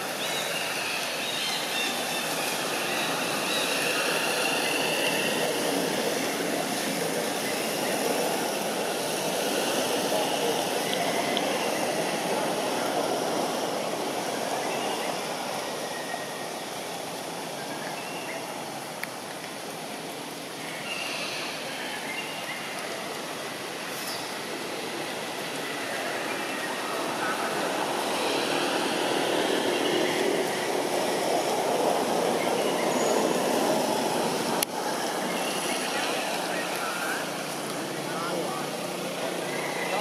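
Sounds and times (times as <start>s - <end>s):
steady background noise: 0.0s - 40.0s
steady rushing ambient noise: 0.0s - 40.0s.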